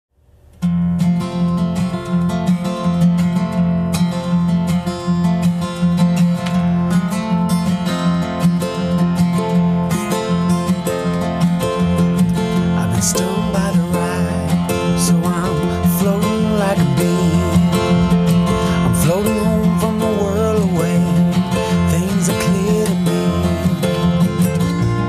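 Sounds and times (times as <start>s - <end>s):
acoustic guitar strumming: 0.2s - 25.0s.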